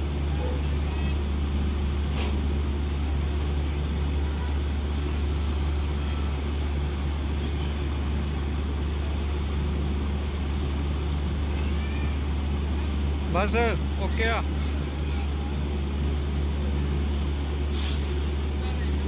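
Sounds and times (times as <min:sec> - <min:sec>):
crane diesel engine humming: 0:00.0 - 0:19.0.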